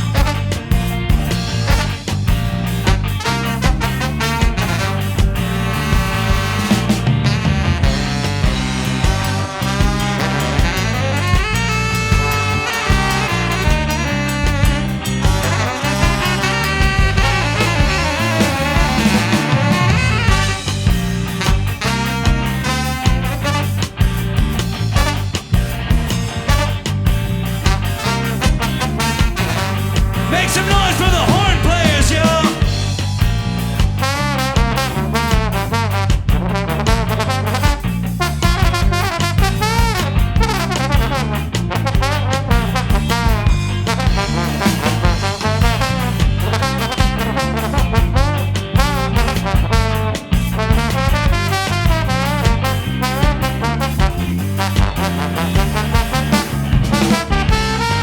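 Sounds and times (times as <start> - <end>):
horn section run: 0.0 - 58.0
ska band playing: 0.0 - 58.0.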